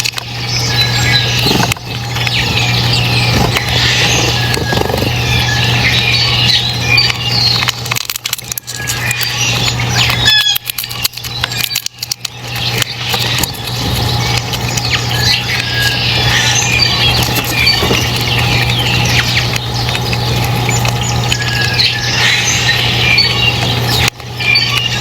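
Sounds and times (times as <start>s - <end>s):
flock of small birds chirping: 0.0s - 25.0s
steady low hum: 0.0s - 25.0s.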